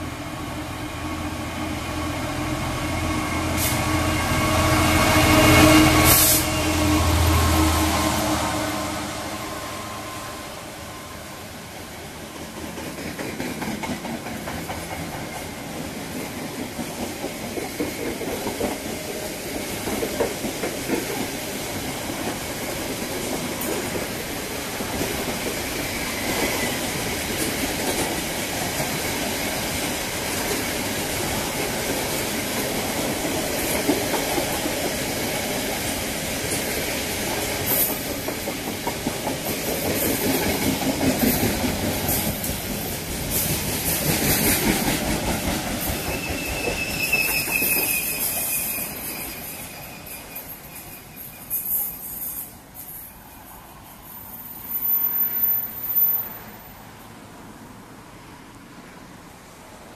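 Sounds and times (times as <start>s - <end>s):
train wheels rumbling on rails: 0.0s - 56.8s.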